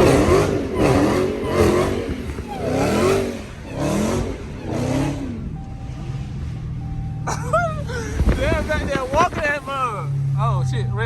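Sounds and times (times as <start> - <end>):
car engine accelerating hard: 0.0 - 10.8.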